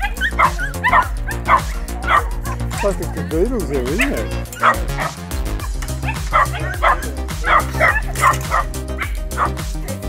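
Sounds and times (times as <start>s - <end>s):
background music with bass: 0.0s - 10.0s
dogs barking: 0.0s - 10.0s.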